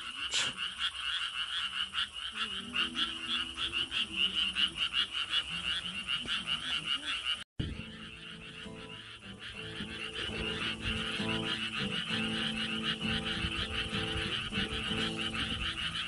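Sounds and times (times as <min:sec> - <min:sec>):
frogs croaking: 0:00.0 - 0:16.0.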